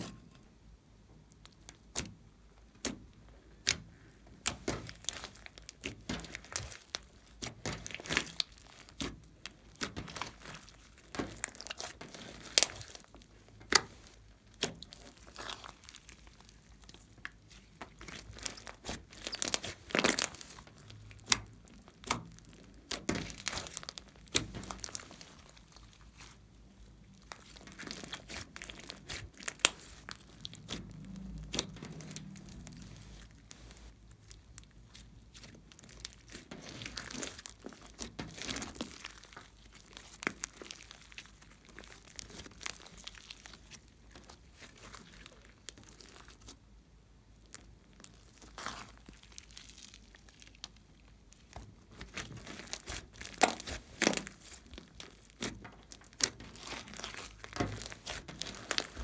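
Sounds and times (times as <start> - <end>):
slime clicking and popping: 1.3 - 26.4, 27.1 - 46.6, 47.4 - 59.0.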